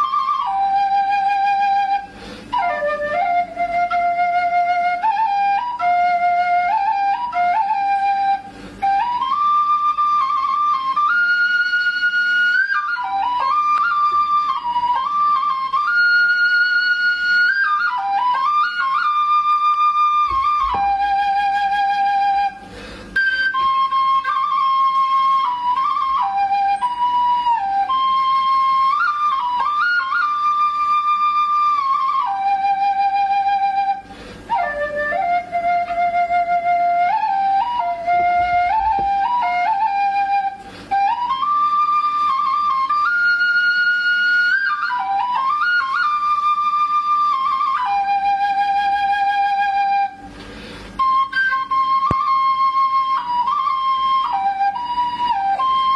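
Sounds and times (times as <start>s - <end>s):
solo flute melody: 0.0s - 55.9s.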